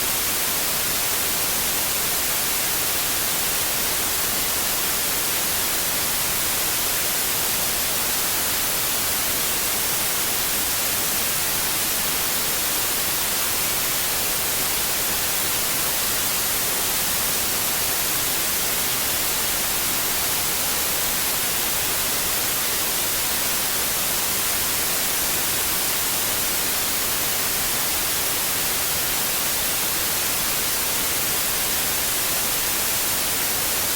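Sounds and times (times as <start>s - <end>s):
steady generated hiss: 0.0s - 33.9s.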